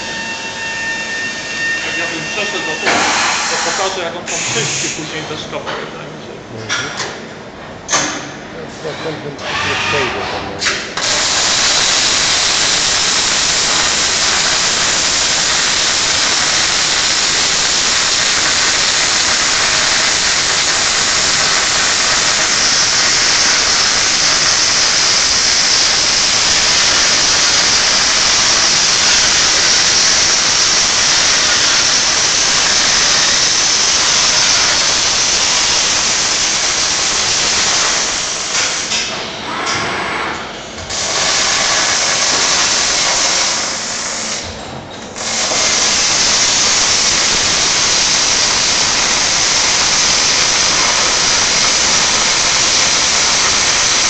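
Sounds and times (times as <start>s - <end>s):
welding arc hissing: 1.9s - 5.2s, 10.7s - 39.1s, 40.8s - 54.0s.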